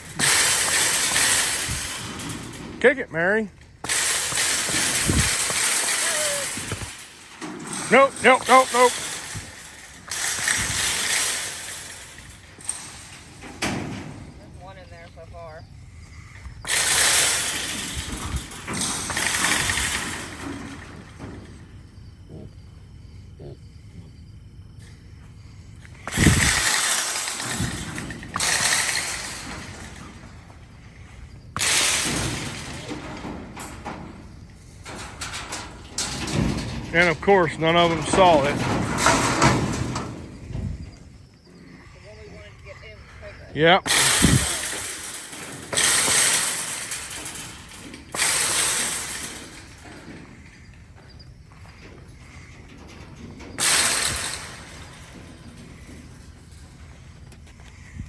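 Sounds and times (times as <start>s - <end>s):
harsh metal clatter: 0.0s - 15.1s, 16.2s - 22.3s, 25.9s - 42.1s, 43.6s - 58.0s
metal panels rattling and clanging: 0.0s - 58.0s.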